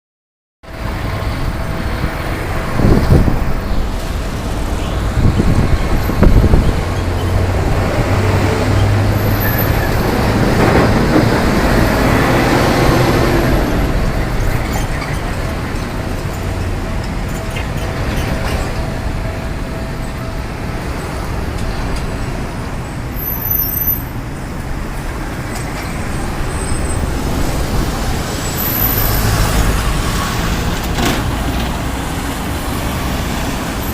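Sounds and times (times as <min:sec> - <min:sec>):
cars passing and idling: 0:00.6 - 0:33.9
low rumble of passing vehicles: 0:00.6 - 0:33.9.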